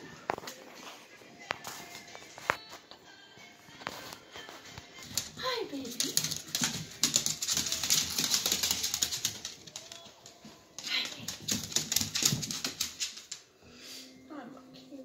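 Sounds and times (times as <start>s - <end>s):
dogs scuffling: 0.0s - 2.8s, 3.6s - 13.5s.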